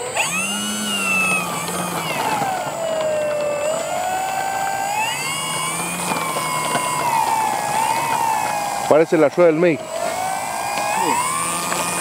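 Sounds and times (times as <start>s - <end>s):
electric motor propeller whine: 0.0s - 12.0s.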